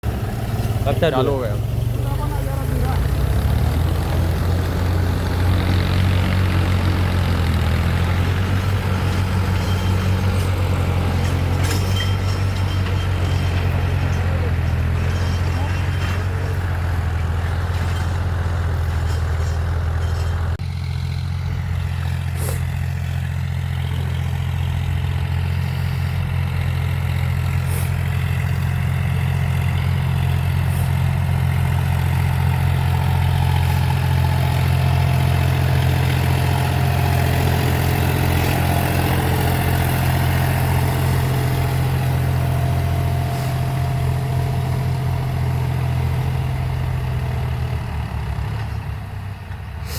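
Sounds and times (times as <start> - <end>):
tractor engine humming: 0.0 - 49.9.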